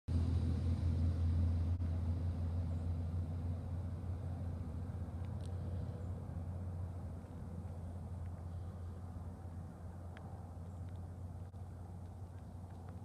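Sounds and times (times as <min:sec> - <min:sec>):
car engine droning: 0:00.1 - 0:13.0.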